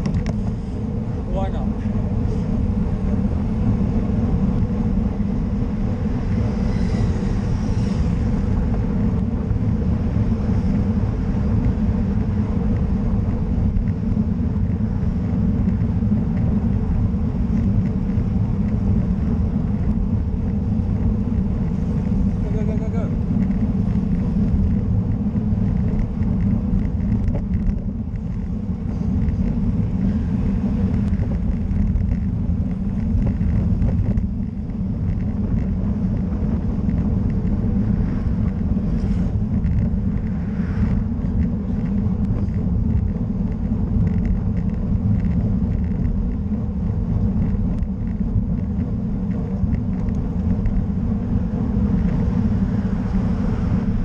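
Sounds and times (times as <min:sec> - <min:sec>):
road and tyre rumble: 0:00.0 - 0:54.0
wind rush on microphone: 0:00.0 - 0:54.0.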